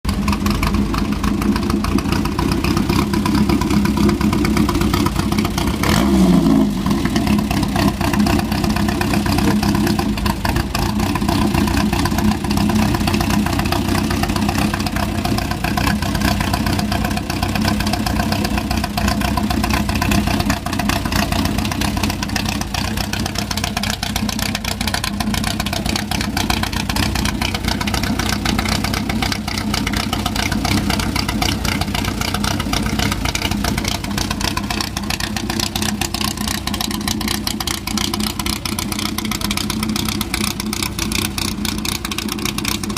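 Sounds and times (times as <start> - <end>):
buggy engine idling: 0.0 - 42.9.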